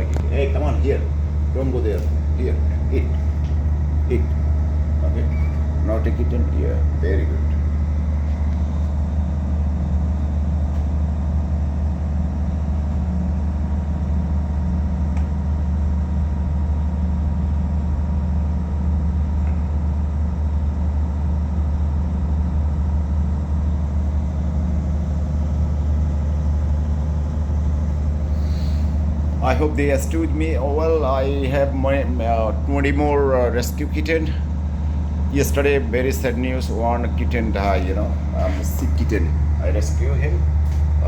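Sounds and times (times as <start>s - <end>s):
machine low hum: 0.0s - 41.0s.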